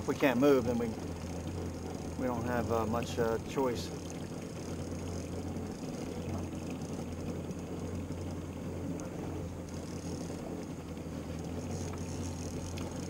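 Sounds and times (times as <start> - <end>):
boat engine idling: 0.0 - 13.0
water noise: 0.0 - 13.0
wind: 0.0 - 13.0.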